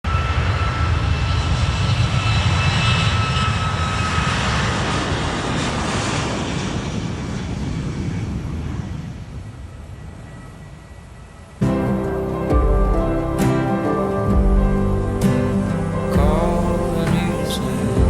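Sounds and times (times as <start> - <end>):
thin jet engine whine: 0.0 - 18.0
jet engines roaring: 0.1 - 18.0.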